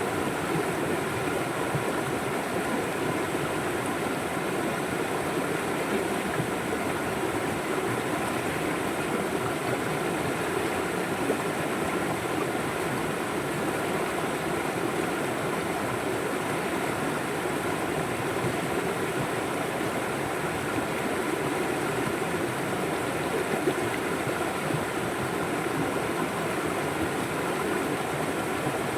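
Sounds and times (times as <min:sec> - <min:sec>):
river flowing: 0:00.0 - 0:28.9.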